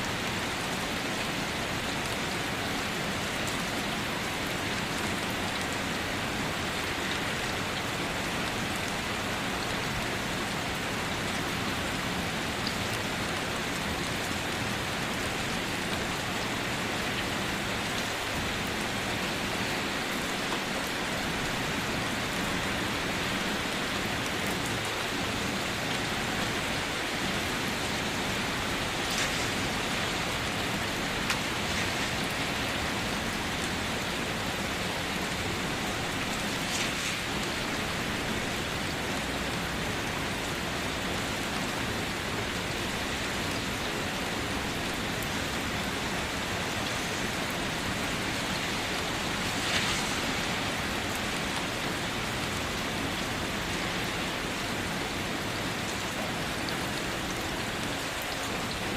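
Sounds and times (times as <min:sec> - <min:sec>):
rain drumming on a car: 0:00.0 - 0:58.9.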